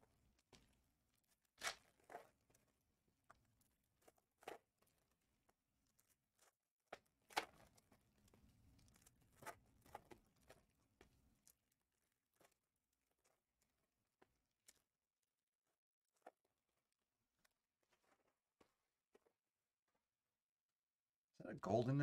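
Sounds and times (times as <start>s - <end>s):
cards and wrappers rustling: 0.0s - 19.4s.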